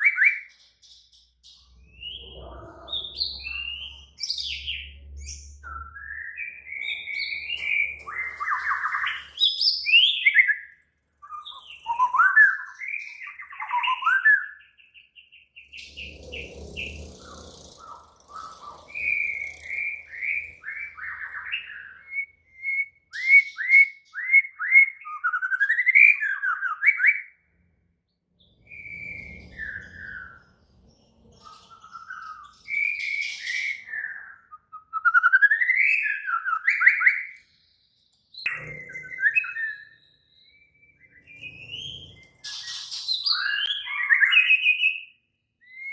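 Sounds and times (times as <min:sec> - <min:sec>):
songbird singing whistled trills: 0:00.0 - 0:17.2, 0:18.3 - 0:27.4, 0:31.3 - 0:45.9.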